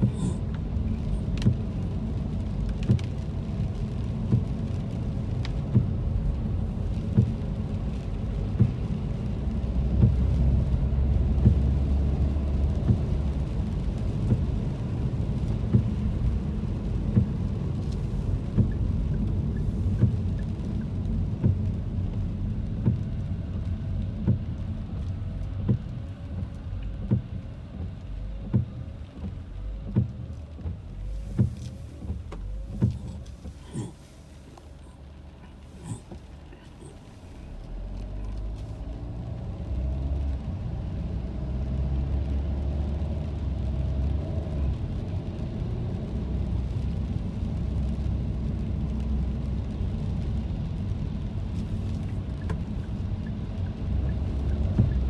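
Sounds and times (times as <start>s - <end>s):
windshield wipers sweeping: 0.0s - 45.0s, 45.6s - 55.0s
rain ticking: 0.0s - 55.0s
road and engine rumble: 0.0s - 55.0s.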